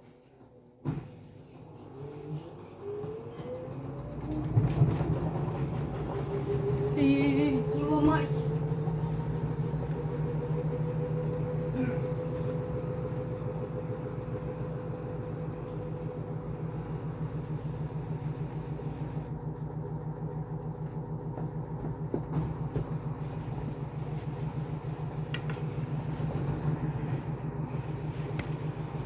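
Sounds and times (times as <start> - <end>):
washing machine spinning: 0.0 - 29.0.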